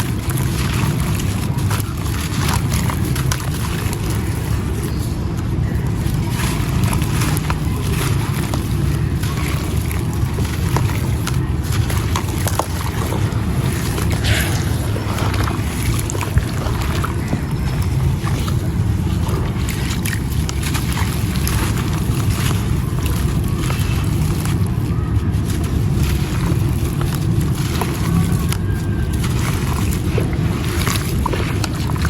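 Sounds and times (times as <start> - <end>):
stone chunks crumbling in water: 0.0 - 32.0.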